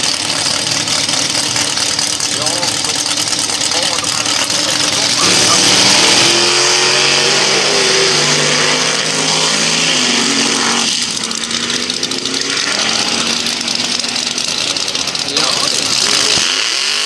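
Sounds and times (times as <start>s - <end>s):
drag cars accelerating: 0.0s - 17.0s.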